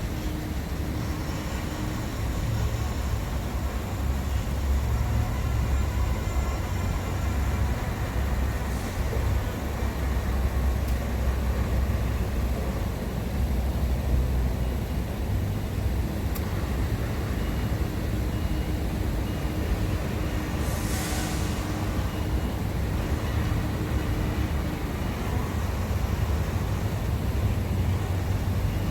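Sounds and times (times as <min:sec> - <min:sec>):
heavy road vehicles rumbling: 0:00.0 - 0:28.9.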